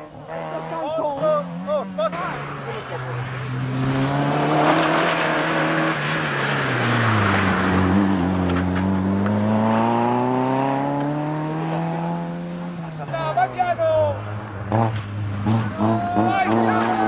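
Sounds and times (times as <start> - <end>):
rally car engine: 0.0 - 17.0.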